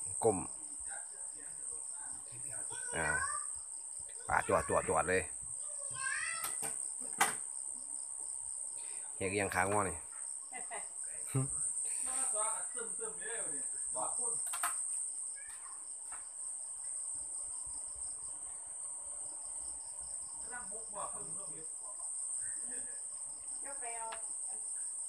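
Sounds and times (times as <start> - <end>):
insect chirping in rapid pulses: 0.0 - 25.0
insects droning high-pitched: 0.0 - 25.0.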